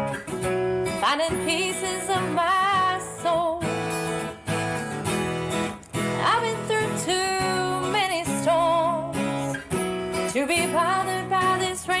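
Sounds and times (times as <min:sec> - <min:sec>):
acoustic guitar strumming: 0:00.0 - 0:12.0
person singing with vibrato: 0:00.2 - 0:04.1, 0:06.1 - 0:12.0.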